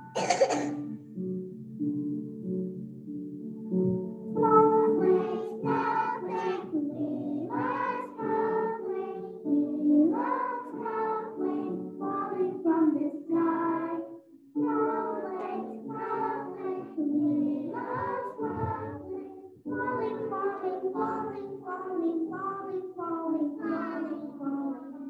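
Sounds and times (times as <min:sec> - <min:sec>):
children singing together: 0:04.4 - 0:25.0.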